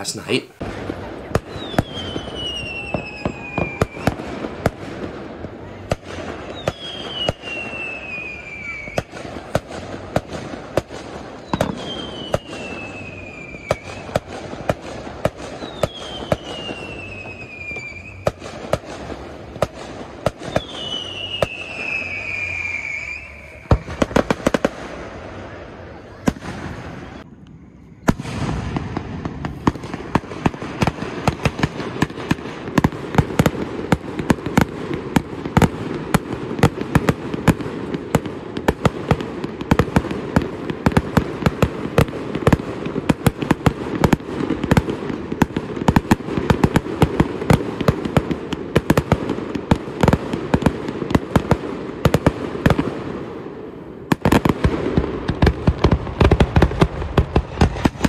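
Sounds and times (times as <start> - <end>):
fireworks bangs: 0.0 - 58.0
fireworks rumble: 0.0 - 58.0.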